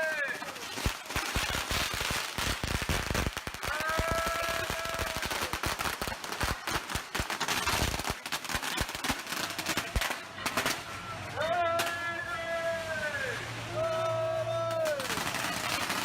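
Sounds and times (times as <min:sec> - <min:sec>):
firecrackers cracking: 0:00.0 - 0:16.0.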